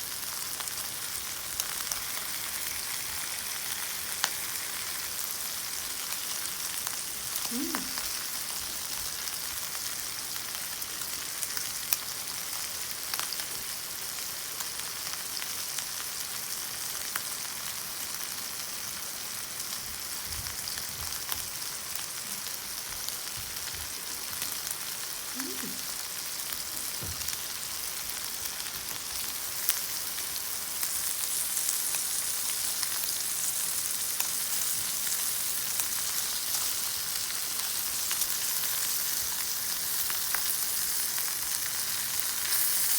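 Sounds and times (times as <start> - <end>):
beef sizzling in a pan: 0.0 - 42.9.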